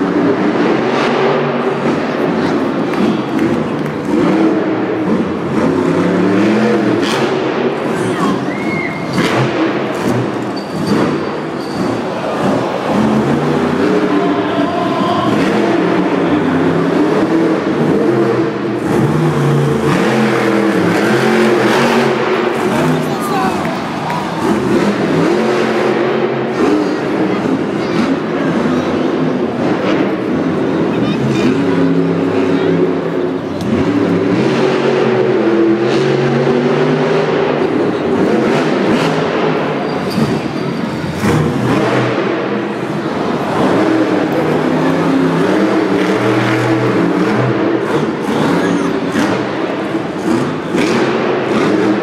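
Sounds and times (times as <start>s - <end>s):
monster truck engine revving: 0.0s - 52.0s.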